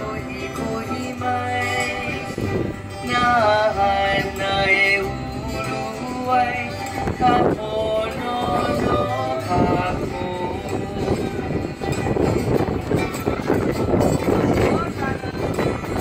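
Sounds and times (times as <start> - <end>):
instrumental accompaniment: 0.0 - 16.0
person singing wavering notes: 0.0 - 16.0.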